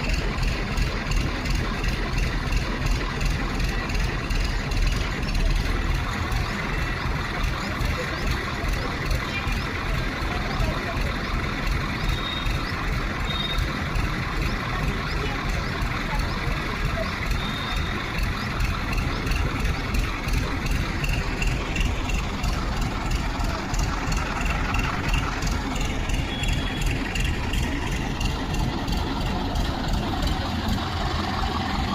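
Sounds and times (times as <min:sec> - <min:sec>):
vehicle engine low rumble: 0:00.0 - 0:31.9.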